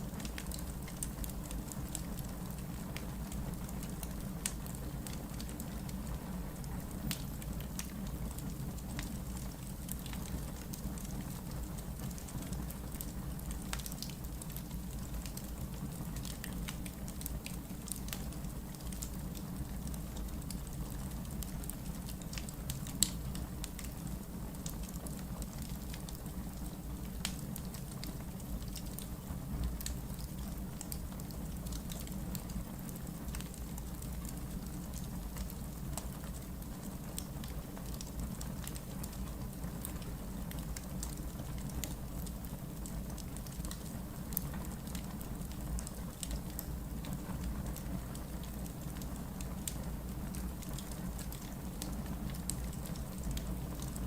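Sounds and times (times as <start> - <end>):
fire crackling and popping: 0.0 - 54.0
fire rumbling: 9.4 - 54.0.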